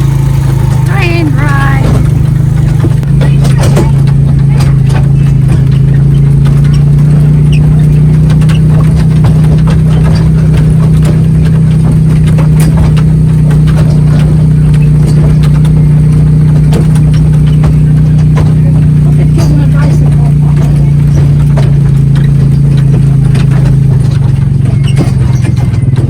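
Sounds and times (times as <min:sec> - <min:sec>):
engine running with low hum: 0:00.0 - 0:26.0.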